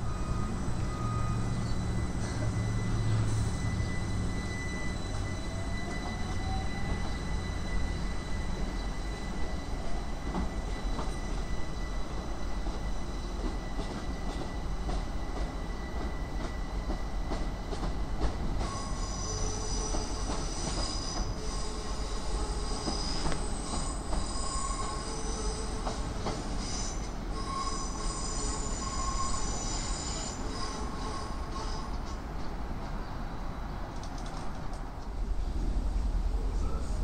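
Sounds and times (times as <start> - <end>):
high metallic squeal: 0.0 - 17.7, 18.6 - 32.2
train rumbling on rails: 0.0 - 37.0.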